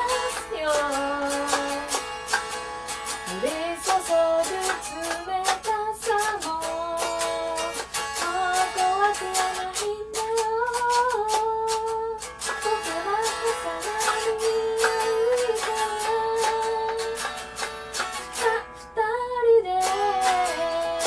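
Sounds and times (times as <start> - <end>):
woman singing: 0.0 - 2.4, 3.2 - 17.4, 18.2 - 21.0
electric guitar strumming: 0.0 - 19.1, 19.7 - 21.0.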